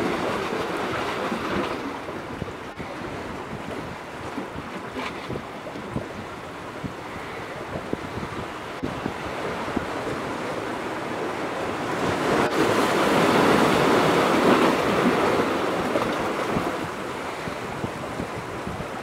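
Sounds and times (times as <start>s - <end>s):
ocean surf: 0.0s - 19.0s
wind on microphone: 0.0s - 19.0s.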